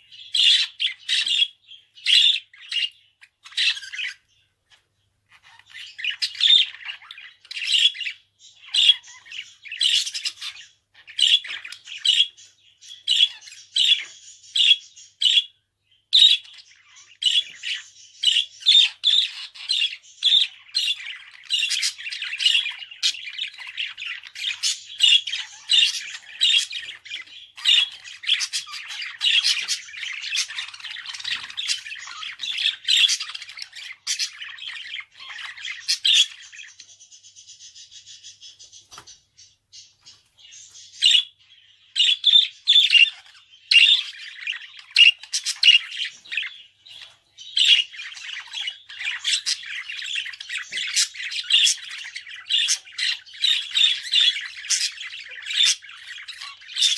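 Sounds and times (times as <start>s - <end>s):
budgerigar chattering and squawking: 0.3s - 4.3s, 5.4s - 15.5s, 16.2s - 38.8s, 42.0s - 56.9s.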